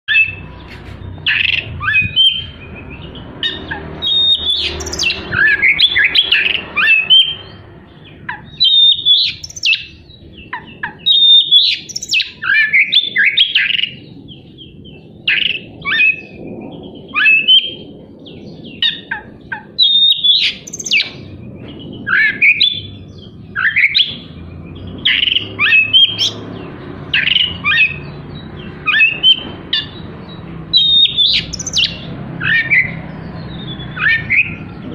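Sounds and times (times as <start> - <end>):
magpie-robin singing: 0.1 - 34.9.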